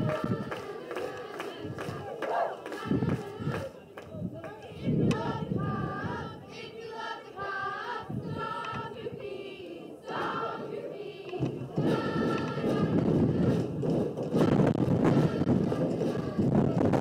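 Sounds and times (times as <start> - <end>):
cheerleaders chanting in unison: 0.0 - 17.0.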